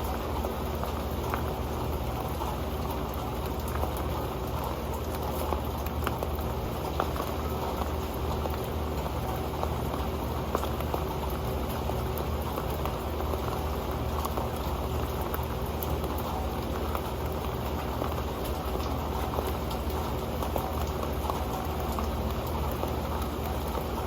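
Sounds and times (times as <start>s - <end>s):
raindrops ticking on a pan: 0.0s - 24.0s.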